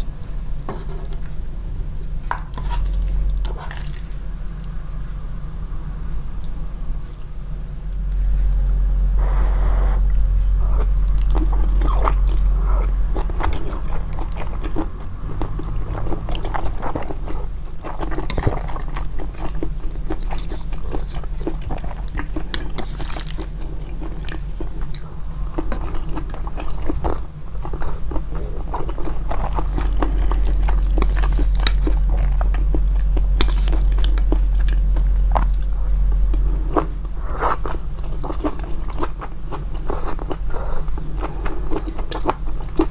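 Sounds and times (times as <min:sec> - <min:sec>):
steady low hum: 0:00.0 - 0:42.9
person chewing noodles: 0:08.1 - 0:42.9.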